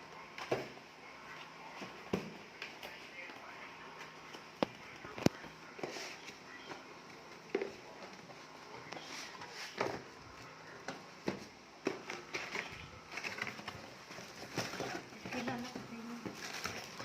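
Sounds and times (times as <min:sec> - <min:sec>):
packaging being handled: 0:02.6 - 0:17.0.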